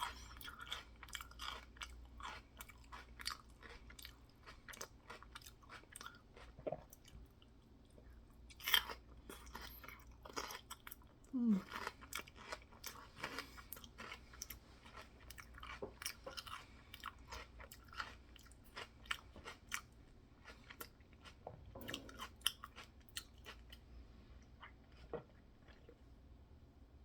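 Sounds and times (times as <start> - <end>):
open-mouthed chewing with crunches: 0.0 - 26.0.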